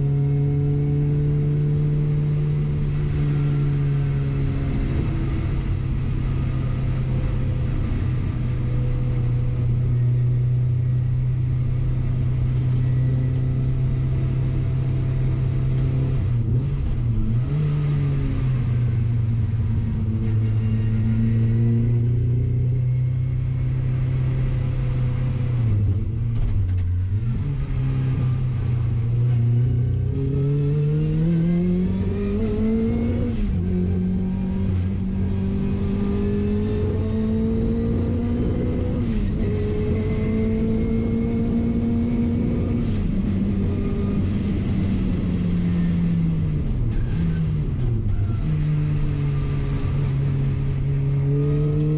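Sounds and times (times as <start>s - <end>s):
car engine running under load: 0.0s - 51.9s.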